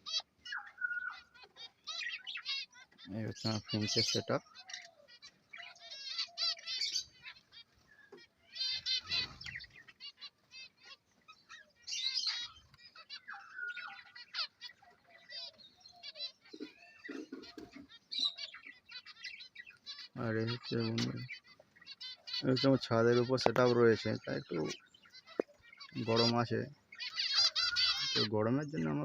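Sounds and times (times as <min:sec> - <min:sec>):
finches chirping and twittering: 0:00.0 - 0:29.0.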